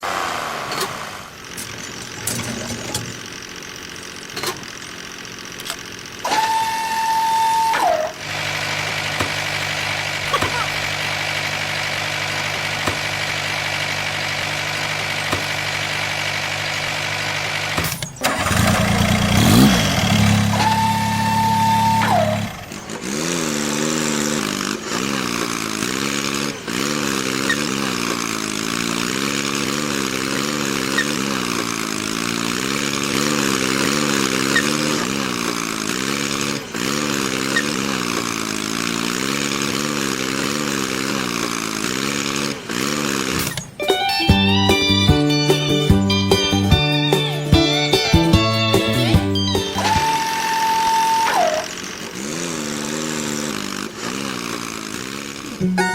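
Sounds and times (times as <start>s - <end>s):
small tractor engine whining: 0.0s - 55.9s.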